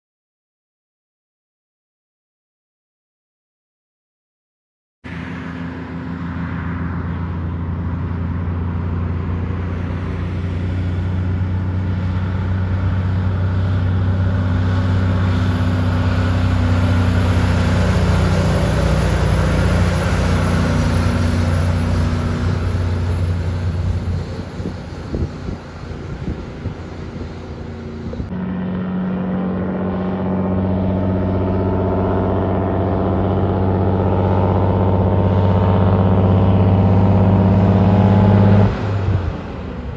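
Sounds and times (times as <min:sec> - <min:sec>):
diesel truck engine drone: 0:05.0 - 0:39.9
tyre and road noise: 0:05.1 - 0:39.9.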